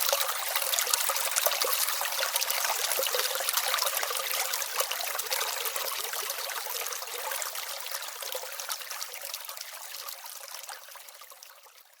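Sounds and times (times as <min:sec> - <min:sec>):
brook babbling: 0:00.0 - 0:12.0.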